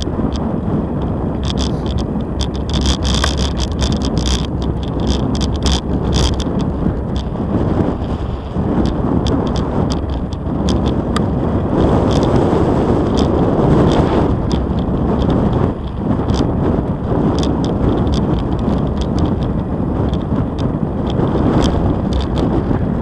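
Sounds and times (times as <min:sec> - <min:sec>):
light clicks and rattles: 0:00.0 - 0:07.4, 0:08.7 - 0:11.3, 0:11.9 - 0:12.4, 0:13.1 - 0:22.8
tyres rolling on asphalt: 0:00.0 - 0:23.0
wind buffeting microphone: 0:00.0 - 0:23.0.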